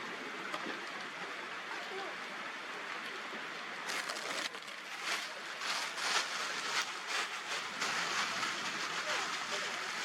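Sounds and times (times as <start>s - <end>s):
rain falling steadily: 0.0s - 10.0s.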